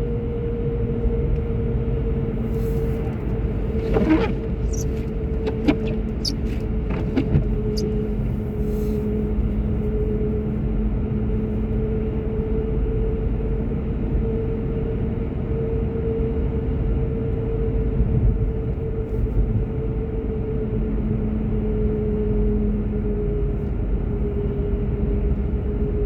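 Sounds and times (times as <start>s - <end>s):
road rumble inside car: 0.0s - 26.0s.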